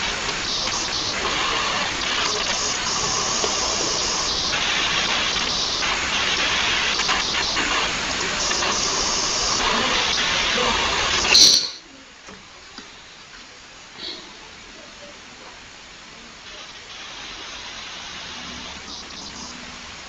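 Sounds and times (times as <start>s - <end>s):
microphone background hiss: 0.0s - 20.0s.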